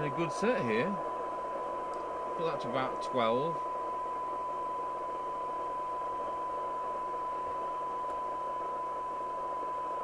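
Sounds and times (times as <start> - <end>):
radio hiss: 0.0 - 10.0
steady test tone: 0.0 - 10.0.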